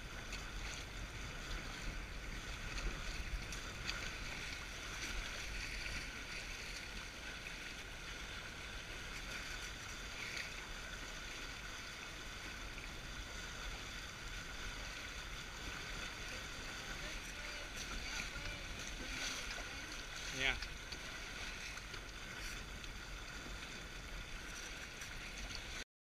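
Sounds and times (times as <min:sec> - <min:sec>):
water splashing along hulls: 0:00.0 - 0:25.8
wind rumble on microphone: 0:00.0 - 0:25.8.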